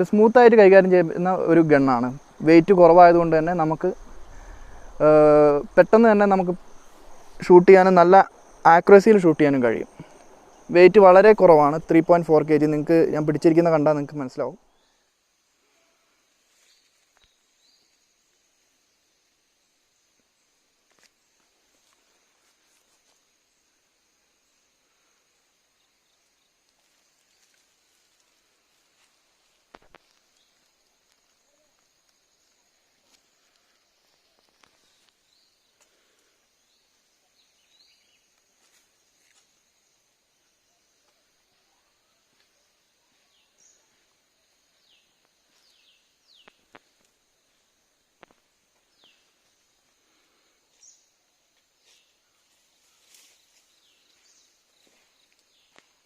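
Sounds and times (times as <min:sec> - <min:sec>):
high insect-like hiss: 0:00.0 - 0:56.0.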